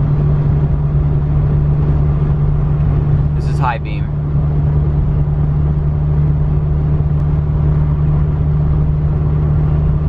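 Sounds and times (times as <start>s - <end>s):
car engine drone: 0.0s - 10.0s
tyre and road noise: 0.0s - 10.0s.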